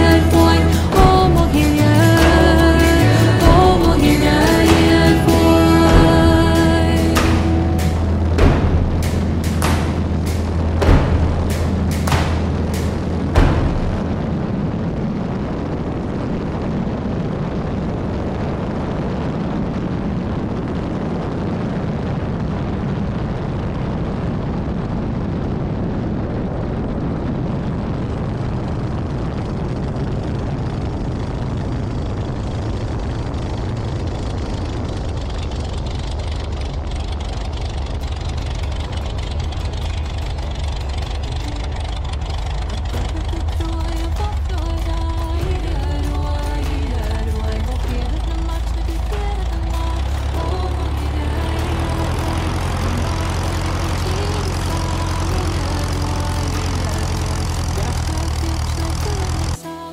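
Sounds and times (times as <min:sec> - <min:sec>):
propeller aircraft engine hum: 0:00.0 - 0:17.9, 0:26.2 - 0:59.6
rush of airflow: 0:00.0 - 0:59.3.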